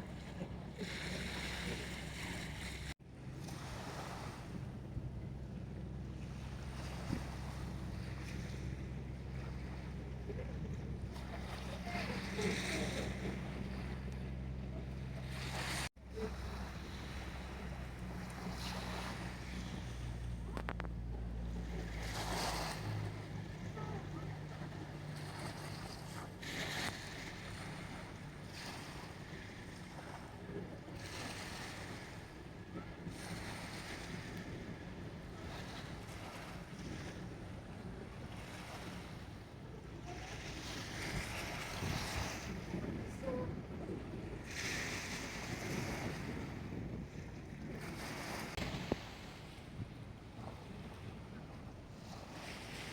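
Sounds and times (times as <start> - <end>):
steady low hum: 0.0 - 44.6
waves washing against shore: 0.0 - 52.9
wind rumbling on microphone: 0.0 - 52.9.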